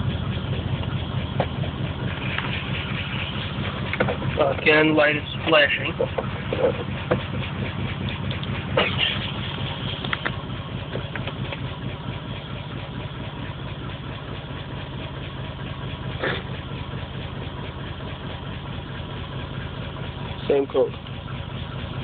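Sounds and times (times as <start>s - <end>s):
car engine idling: 0.0s - 22.0s
engine misfire knocks: 0.0s - 22.0s.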